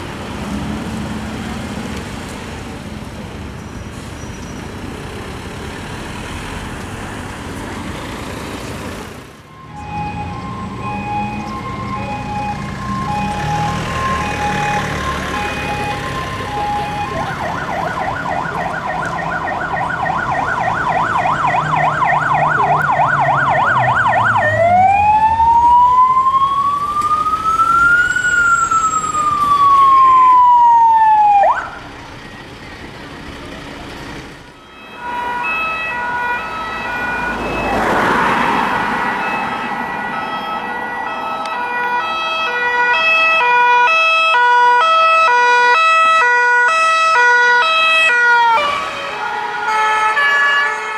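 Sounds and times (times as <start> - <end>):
vehicle engine: 0.0 - 30.3, 31.2 - 42.2
emergency vehicle siren: 9.4 - 50.9.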